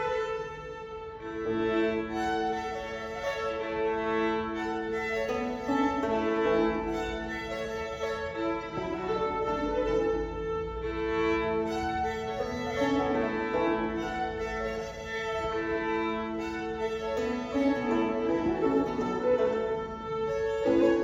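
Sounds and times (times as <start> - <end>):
banjo playing: 0.0 - 21.0
fiddles playing melody: 0.0 - 21.0.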